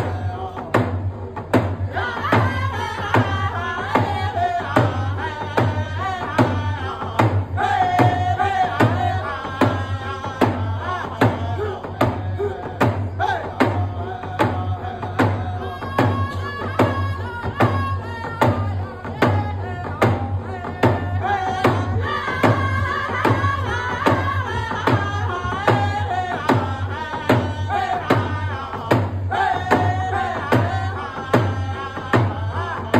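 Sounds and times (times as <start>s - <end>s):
hand drum beat: 0.0s - 32.9s
men singing together: 0.0s - 32.9s.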